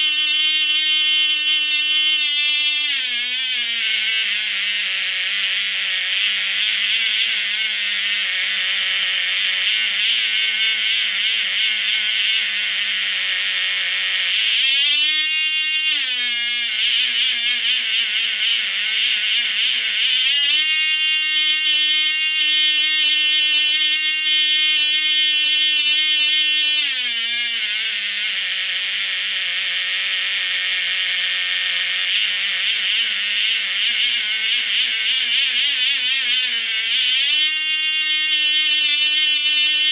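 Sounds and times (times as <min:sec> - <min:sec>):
model engine high-pitched whine: 0:00.0 - 0:39.9.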